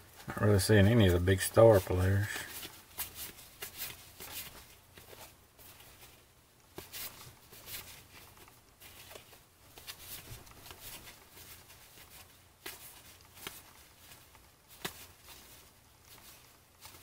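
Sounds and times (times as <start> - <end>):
cards flicking and rustling: 0.0 - 17.0.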